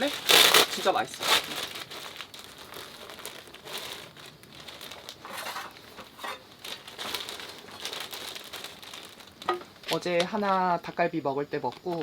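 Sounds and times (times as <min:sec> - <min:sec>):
plastic packaging crinkling: 0:00.0 - 0:11.0, 0:11.6 - 0:12.0.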